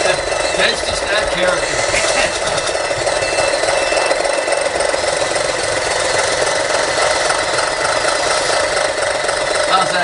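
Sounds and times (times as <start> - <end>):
model machines mechanical noise: 0.0 - 10.0.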